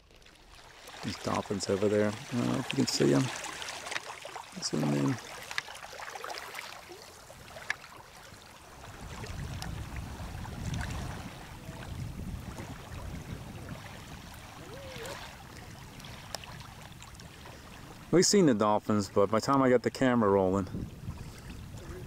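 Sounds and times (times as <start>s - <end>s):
small waves lapping: 0.0s - 22.0s.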